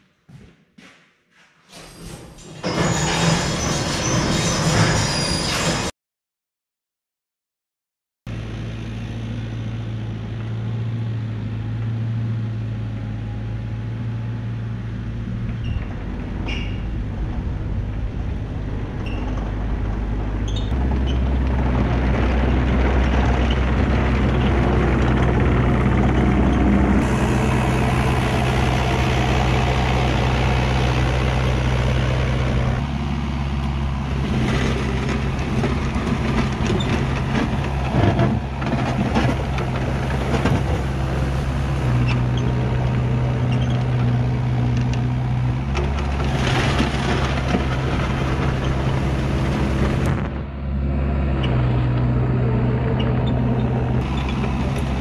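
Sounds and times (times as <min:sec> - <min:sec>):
excavator diesel engine running: 0:08.3 - 0:55.0.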